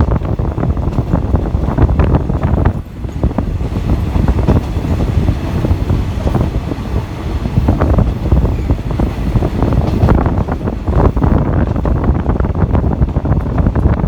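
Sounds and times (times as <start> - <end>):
train carriage rumbling and rattling: 0.0 - 14.0
wind buffeting microphone: 0.0 - 14.0.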